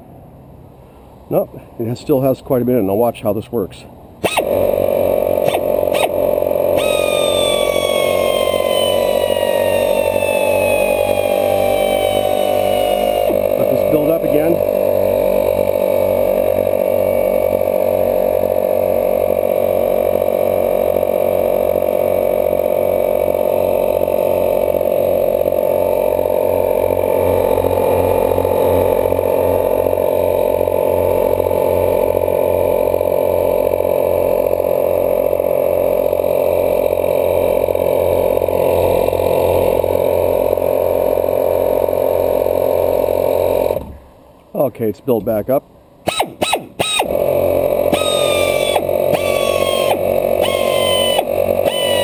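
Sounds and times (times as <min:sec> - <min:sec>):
air compressor pulsing hum: 0:04.2 - 0:44.2, 0:46.0 - 0:52.0.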